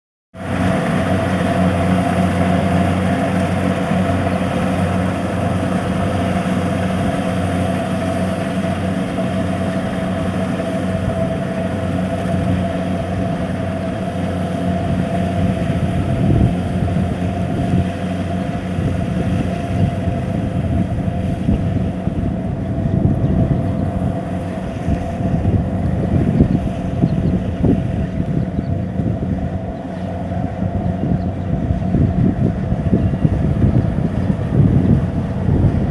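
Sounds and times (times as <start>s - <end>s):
engine drone: 0.4s - 35.9s
steady whine: 0.4s - 35.9s
uneven low rumbling: 0.4s - 35.9s.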